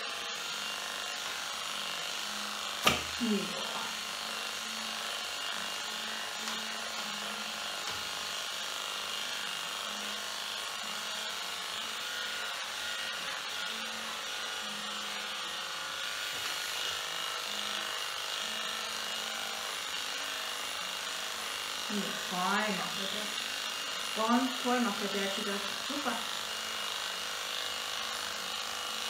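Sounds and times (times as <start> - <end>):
electric clipper buzzing: 0.0 - 29.0.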